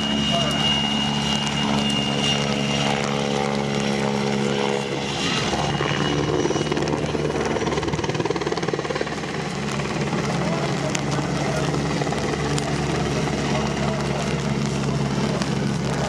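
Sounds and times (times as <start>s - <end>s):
helicopter rotor and turbine noise: 0.0s - 16.0s.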